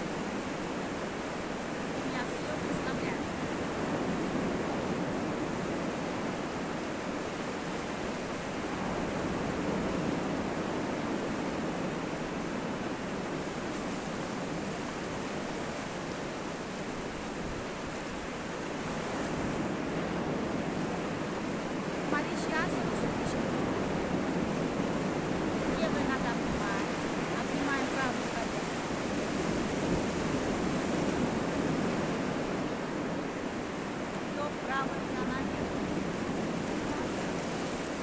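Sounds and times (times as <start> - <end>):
surf washing onto beach: 0.0 - 38.0.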